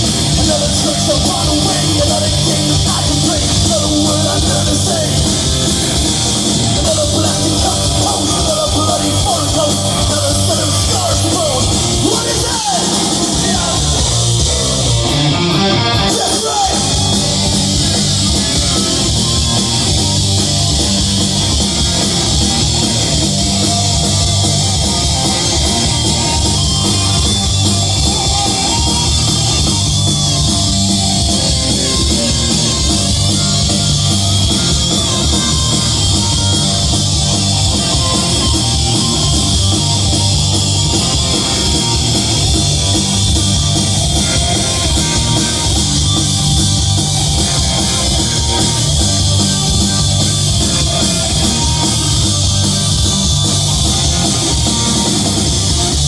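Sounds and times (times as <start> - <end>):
bending lead guitar notes: 0.0 - 56.0
live hard rock band: 0.0 - 56.0.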